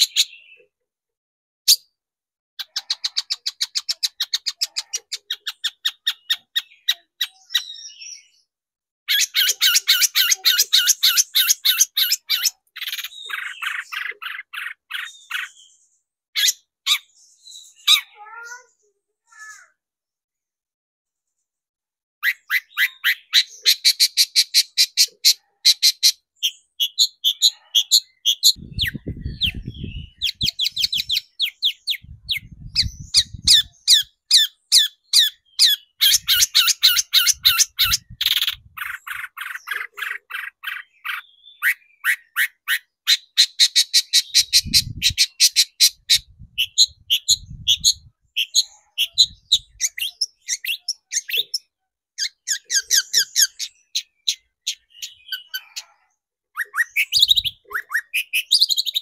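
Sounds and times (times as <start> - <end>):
bird harsh chattering calls: 0.0 - 0.7, 2.6 - 8.4, 9.1 - 15.8, 16.4 - 19.7, 22.2 - 59.0.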